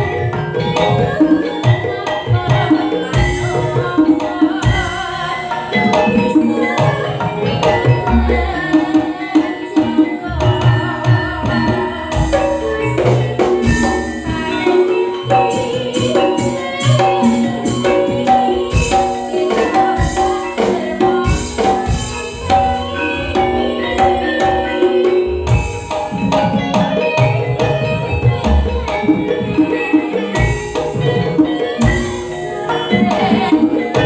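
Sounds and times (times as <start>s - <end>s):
steady drum rhythm: 0.0s - 34.0s
tuned percussion melody: 0.0s - 34.0s.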